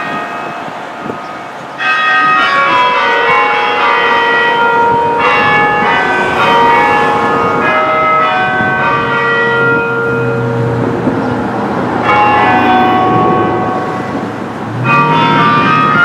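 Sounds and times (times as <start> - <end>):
tower bells ringing: 0.0 - 16.0.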